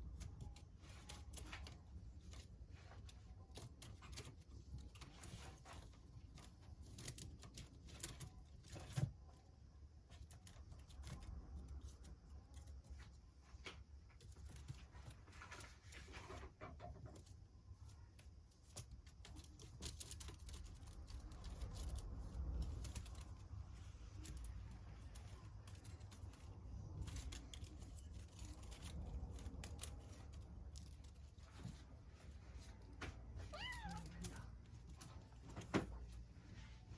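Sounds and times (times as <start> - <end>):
scratching and rustling: 0.0 - 36.9.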